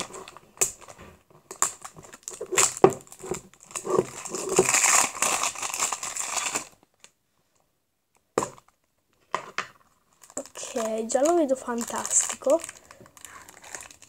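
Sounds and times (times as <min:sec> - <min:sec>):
plastic packaging crinkling: 0:00.0 - 0:07.1, 0:09.8 - 0:14.0.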